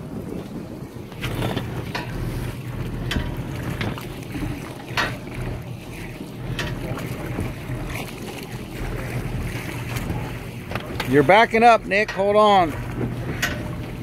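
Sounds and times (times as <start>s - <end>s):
boat engine idling: 0.0s - 14.0s
wooden pole knocking on boat: 1.2s - 14.0s.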